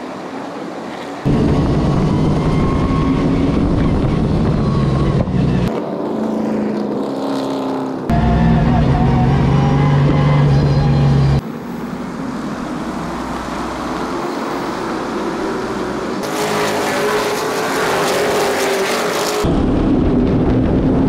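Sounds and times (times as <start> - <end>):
field of cars racing: 0.0 - 21.0
race car engine from cockpit: 0.9 - 21.0.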